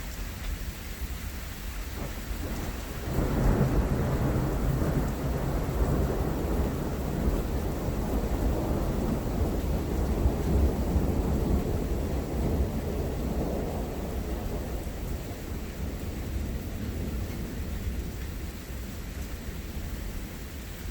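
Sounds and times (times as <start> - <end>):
steady rain: 0.0 - 20.9
thunder rumbling: 2.0 - 20.2.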